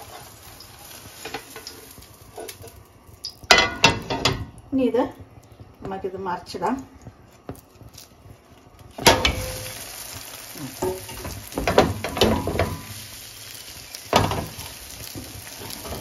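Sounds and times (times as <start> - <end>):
omelette sizzling in a pan: 0.0 - 16.0.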